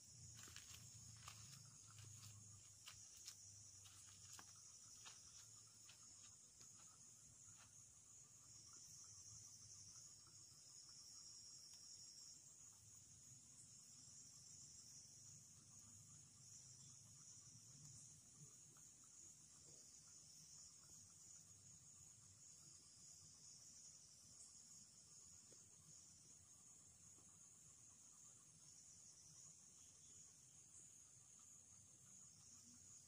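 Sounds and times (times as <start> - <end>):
night insects chorus: 0.0 - 33.0.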